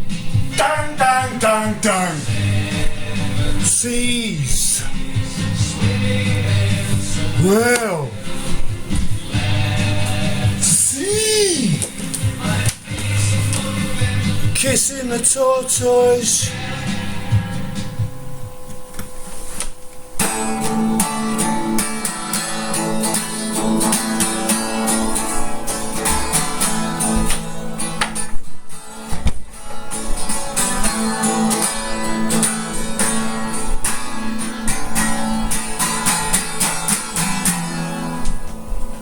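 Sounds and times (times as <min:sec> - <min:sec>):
guitar strumming chords: 0:00.0 - 0:39.0.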